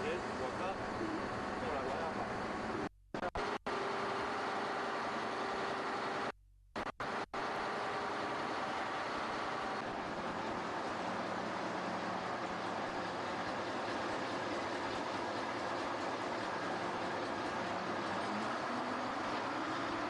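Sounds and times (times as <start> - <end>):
ship engine drone: 0.0 - 6.3, 7.0 - 20.0.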